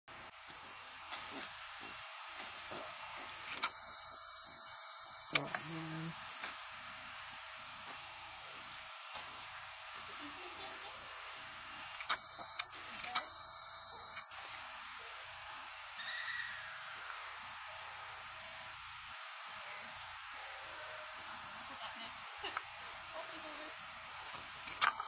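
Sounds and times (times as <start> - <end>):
insect chorus: 0.2 - 25.0.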